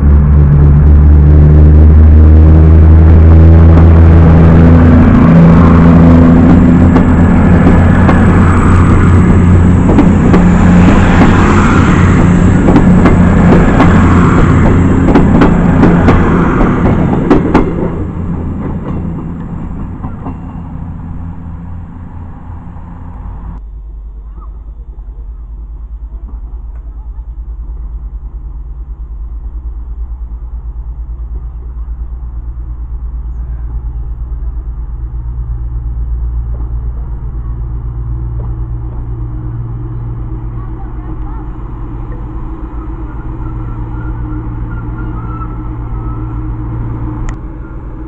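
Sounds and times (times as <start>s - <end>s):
passenger coaches rolling past: 0.0s - 23.6s, 24.3s - 48.0s
diesel train engine humming: 0.0s - 48.0s.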